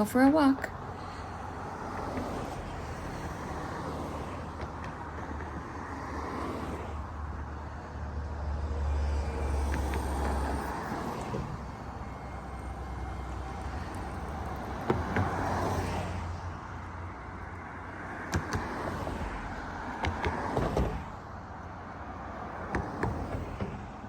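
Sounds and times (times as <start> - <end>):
heavy vehicle rumble: 0.0 - 24.0
hum of passing cars: 0.0 - 24.0.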